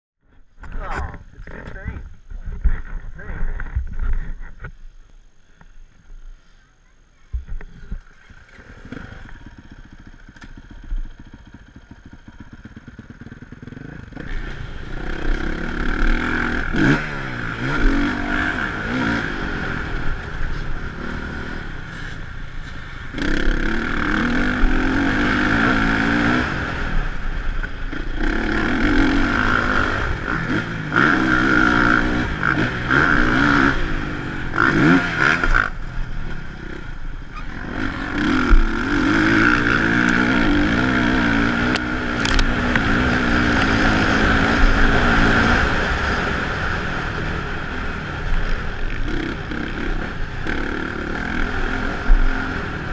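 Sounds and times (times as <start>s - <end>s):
motocross bike engine revving: 7.8s - 52.9s.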